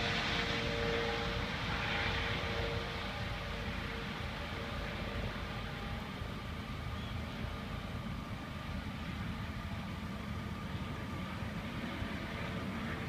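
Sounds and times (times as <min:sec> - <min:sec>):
faint whine tones: 0:00.0 - 0:13.0
helicopter rotor rumble: 0:00.0 - 0:13.0.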